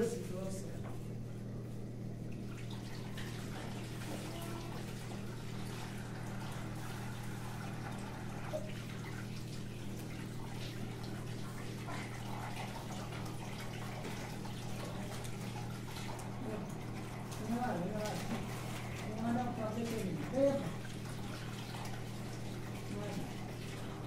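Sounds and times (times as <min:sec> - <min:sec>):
steady low hum: 0:00.0 - 0:24.0
tap water running into sink: 0:02.2 - 0:24.0
water splashes: 0:02.2 - 0:24.0.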